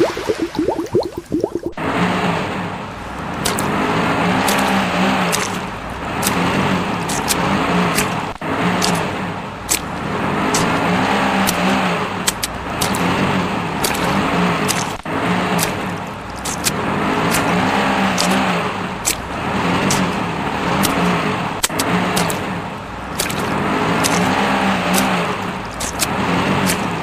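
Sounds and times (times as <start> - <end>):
vehicle engine revving: 1.8 - 27.0.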